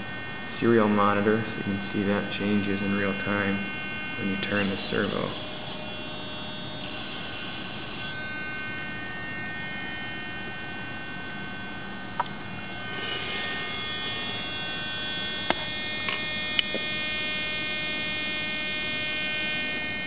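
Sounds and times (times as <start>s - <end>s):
electrical hum and buzz: 0.0s - 20.0s.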